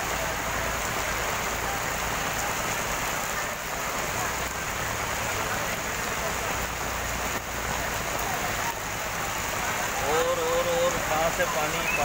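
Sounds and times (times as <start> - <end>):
heavy rain falling into water: 0.0 - 12.0.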